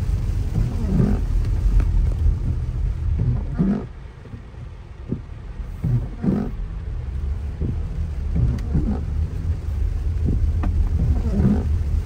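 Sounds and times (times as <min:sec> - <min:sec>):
car rumbling on wet road: 0:00.0 - 0:12.0
faint rain hiss: 0:00.0 - 0:12.0.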